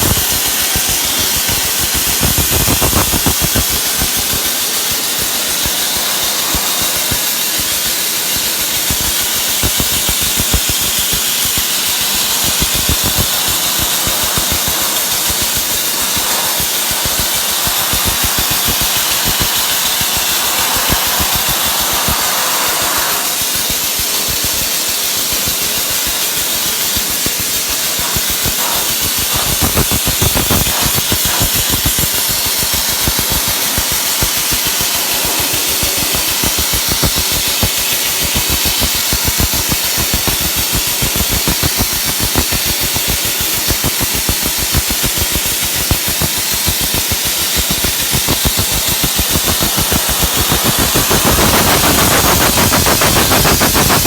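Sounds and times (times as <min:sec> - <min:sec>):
pellets clicking on wood: 0:00.0 - 0:22.3, 0:23.2 - 0:54.0
compressed air hissing: 0:00.0 - 0:54.0.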